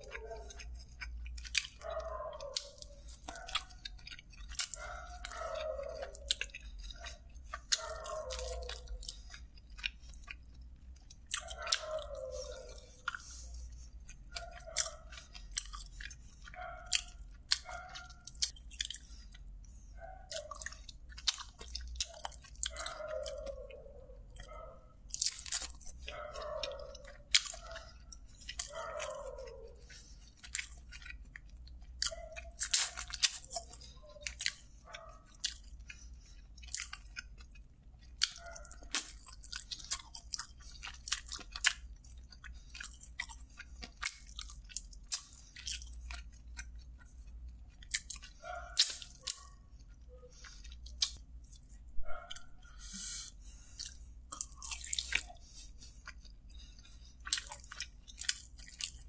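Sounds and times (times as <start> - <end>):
man chewing chicken: 0.0 - 59.0.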